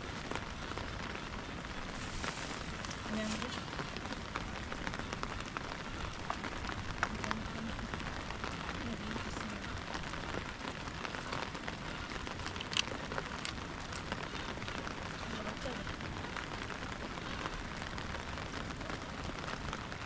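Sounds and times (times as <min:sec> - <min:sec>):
raindrops tapping on surfaces: 0:00.0 - 0:20.0
steady rain falling: 0:00.0 - 0:20.0.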